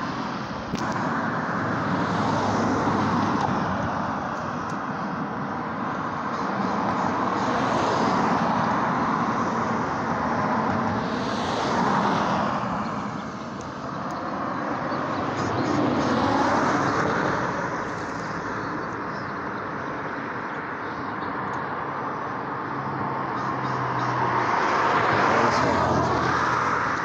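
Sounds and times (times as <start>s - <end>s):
cars passing on street: 0.0s - 27.0s.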